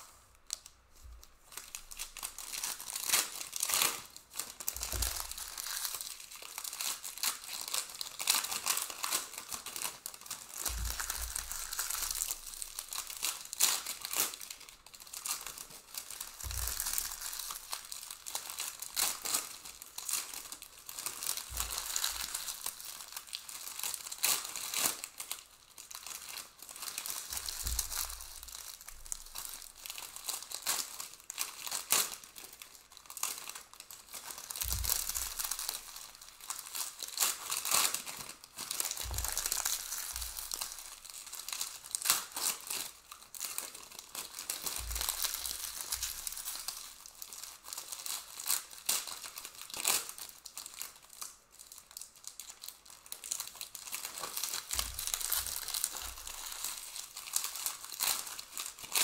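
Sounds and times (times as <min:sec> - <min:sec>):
plastic wrappers tearing and crumpling: 0:00.0 - 0:59.0.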